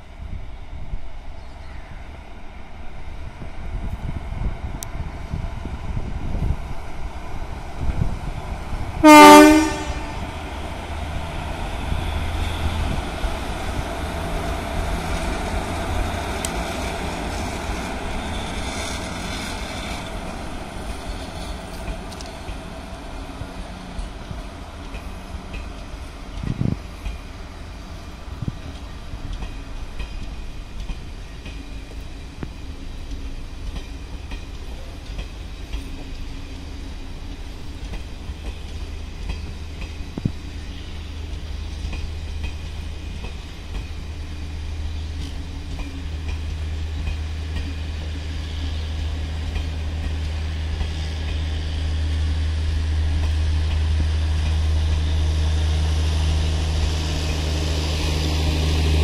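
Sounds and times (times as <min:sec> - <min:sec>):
train coaches rumbling past: 0:00.0 - 0:59.0.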